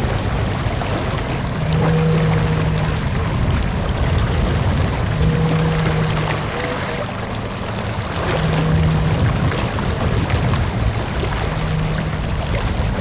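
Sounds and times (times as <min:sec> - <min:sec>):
wind and water rumble: 0:00.0 - 0:13.0
low horn-like tone: 0:01.2 - 0:13.0.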